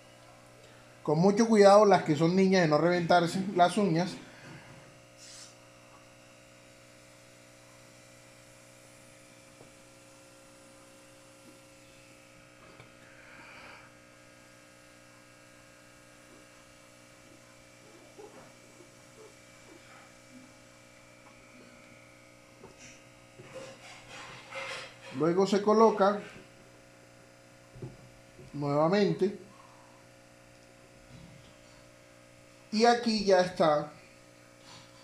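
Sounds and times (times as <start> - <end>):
faint electrical hum: 0.0 - 35.0.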